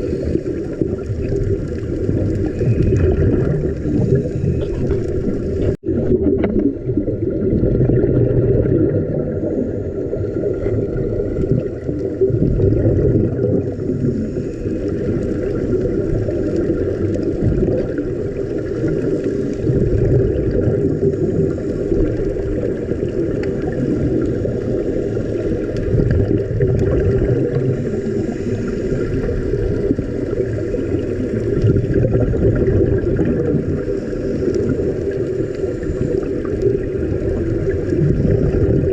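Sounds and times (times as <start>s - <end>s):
low rumble of water: 0.0s - 38.9s.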